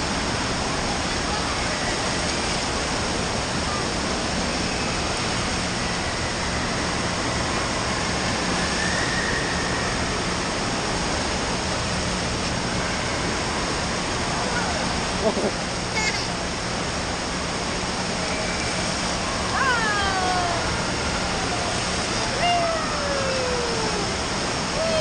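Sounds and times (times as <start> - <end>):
water rushing and splashing: 0.0 - 25.0.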